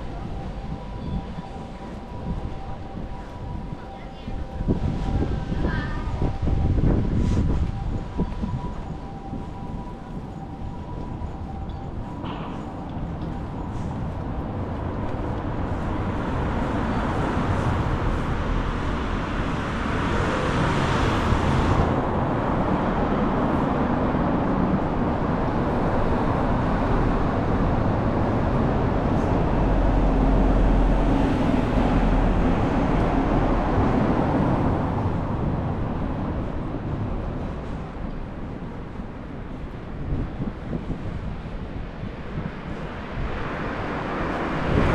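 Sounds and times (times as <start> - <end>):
heavy low rumble: 0.0 - 44.9
passing vehicles: 0.0 - 44.9.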